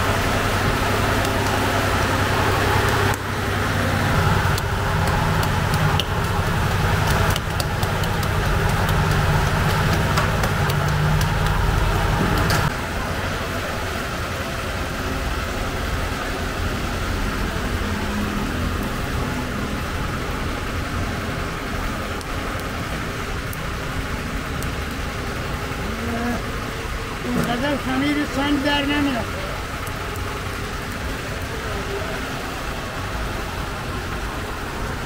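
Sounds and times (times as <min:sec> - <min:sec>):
machinery humming: 0:00.0 - 0:35.0
street background: 0:00.0 - 0:35.0.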